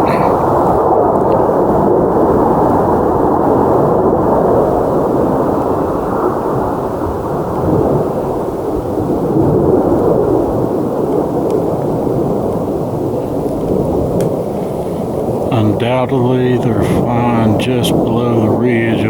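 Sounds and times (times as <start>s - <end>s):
jet fighters roaring overhead: 0.0s - 19.0s.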